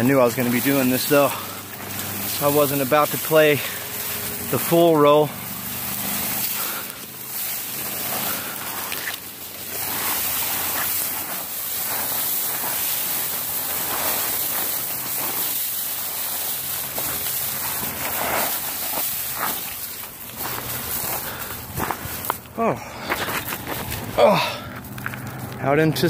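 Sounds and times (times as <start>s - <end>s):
brush rustling and scraping: 0.0s - 26.0s.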